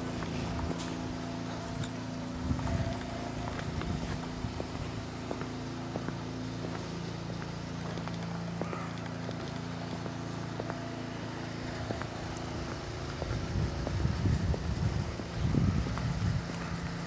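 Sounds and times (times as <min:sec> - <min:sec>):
footsteps on pavement: 0:00.0 - 0:17.0
steady low hum: 0:00.0 - 0:17.0.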